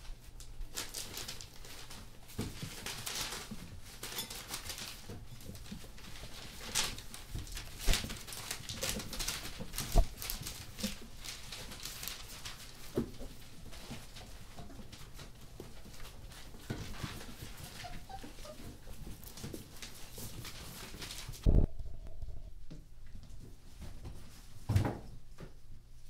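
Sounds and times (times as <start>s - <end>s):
puppy paws pattering: 0.0s - 24.6s
paper rustling: 0.4s - 21.7s.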